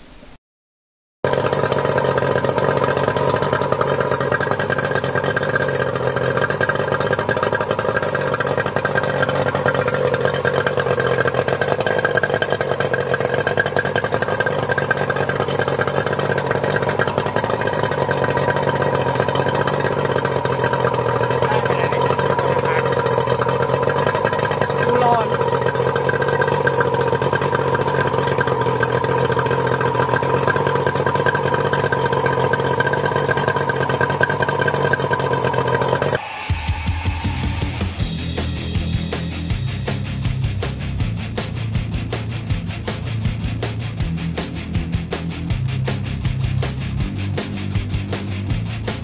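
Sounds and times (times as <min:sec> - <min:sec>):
outboard motor idling: 0:01.2 - 0:36.2, 0:37.8 - 0:49.0.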